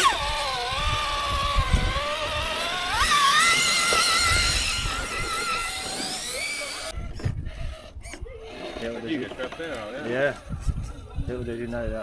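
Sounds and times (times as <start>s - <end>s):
electric motor whining: 0.0s - 11.5s.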